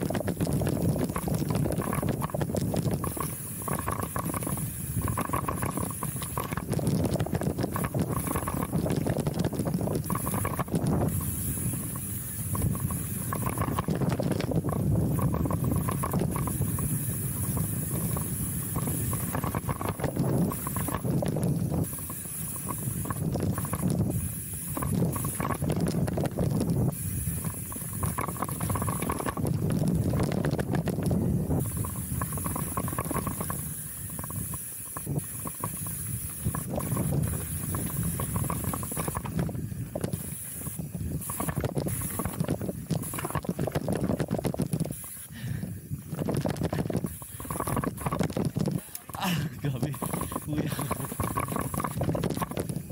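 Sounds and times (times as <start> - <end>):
bike rattling: 0.0 - 52.9
bike tyres rolling on dirt: 0.0 - 52.9
wind rushing over microphone: 0.0 - 52.9.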